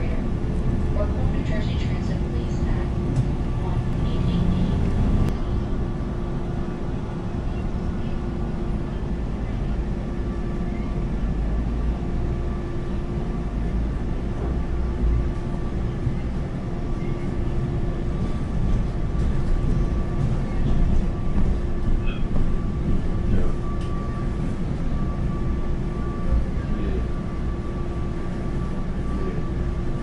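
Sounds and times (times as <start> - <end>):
constant hum: 0.0 - 30.0
train wheels rumbling on rails: 0.0 - 30.0.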